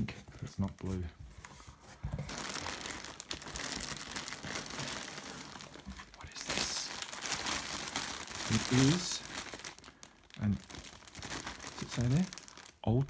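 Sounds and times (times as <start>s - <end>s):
plastic bag crinkling: 2.1s - 13.0s.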